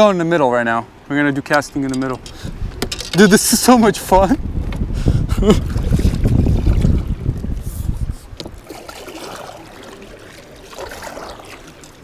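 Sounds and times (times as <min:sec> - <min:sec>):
water lapping around boat: 0:00.2 - 0:12.0.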